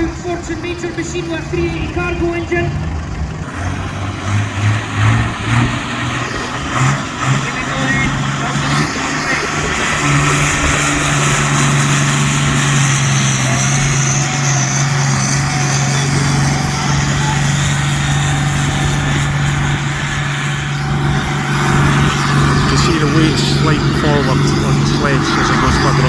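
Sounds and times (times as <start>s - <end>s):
tractor engine under full load: 0.0s - 26.0s.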